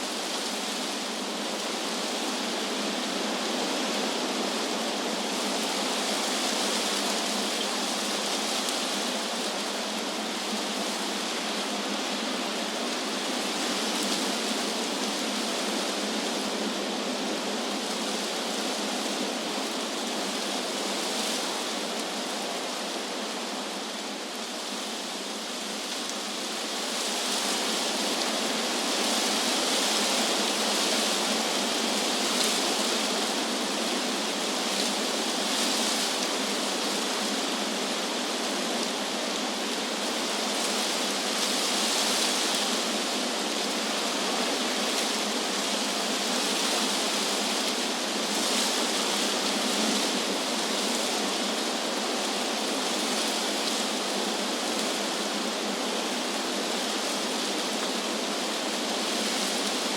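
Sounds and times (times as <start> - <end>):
wind rustling leaves: 0.0 - 59.9.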